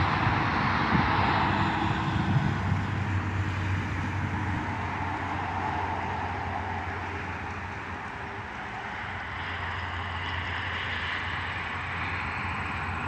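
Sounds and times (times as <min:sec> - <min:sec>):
highway traffic passing: 0:00.0 - 0:13.0
truck passing: 0:00.0 - 0:13.0.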